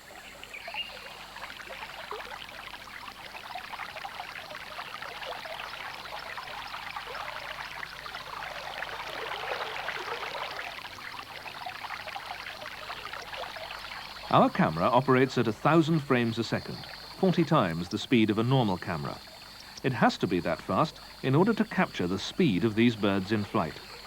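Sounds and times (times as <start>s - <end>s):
water trickling and gurgling: 0.0s - 24.0s.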